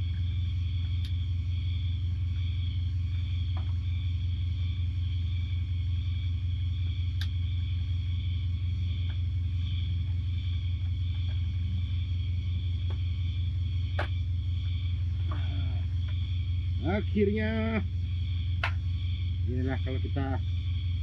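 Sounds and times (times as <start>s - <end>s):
high-pitched whine: 0.0s - 21.0s
low engine-like drone: 0.0s - 21.0s.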